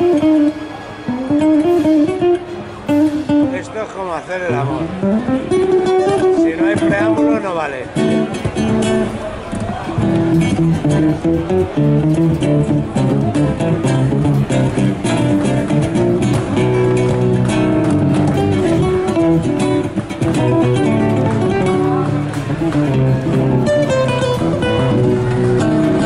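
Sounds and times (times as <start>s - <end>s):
acoustic guitars playing: 0.0s - 26.0s.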